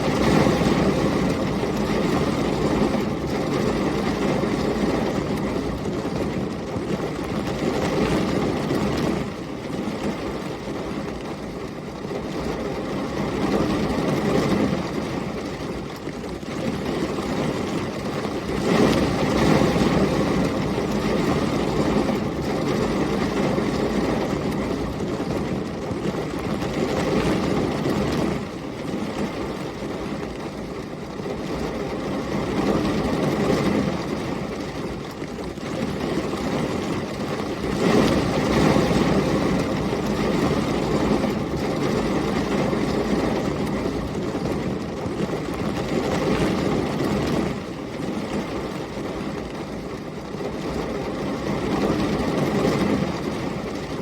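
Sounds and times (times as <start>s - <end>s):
heavy rain and storm wind: 0.0s - 54.0s.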